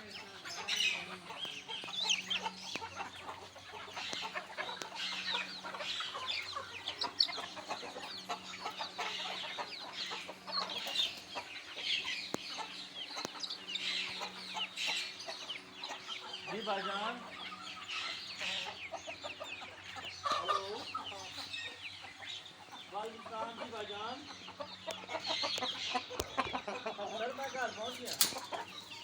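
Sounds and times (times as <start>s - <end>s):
chickens clucking: 0.0s - 29.0s
chicks cheeping: 0.0s - 29.0s.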